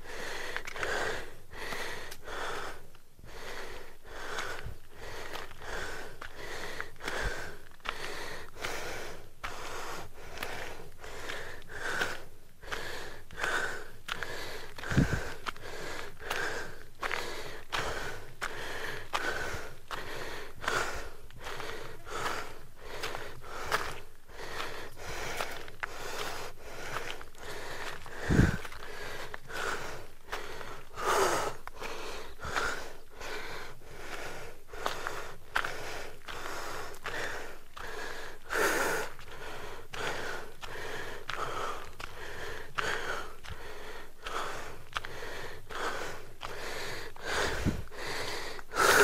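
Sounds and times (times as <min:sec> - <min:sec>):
man panting heavily: 0:00.0 - 0:49.0.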